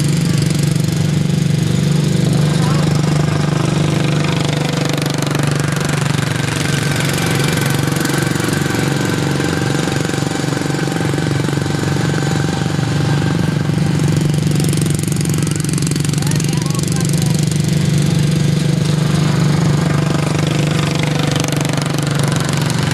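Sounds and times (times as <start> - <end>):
racing lawn mower engines buzzing: 0.0 - 22.9.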